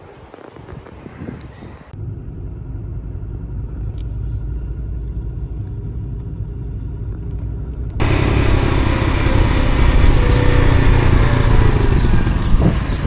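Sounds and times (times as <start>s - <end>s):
vehicle engine rumble: 1.7s - 13.0s.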